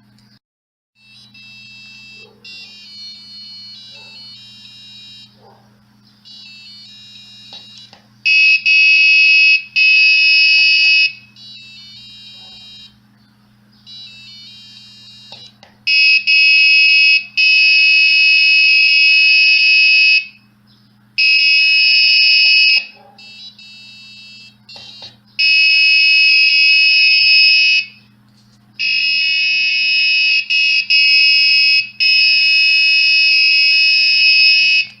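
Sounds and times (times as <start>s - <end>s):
shrill electronic buzzer tones: 1.0s - 5.5s, 6.2s - 13.0s, 13.8s - 20.5s, 21.2s - 28.0s, 28.8s - 35.0s.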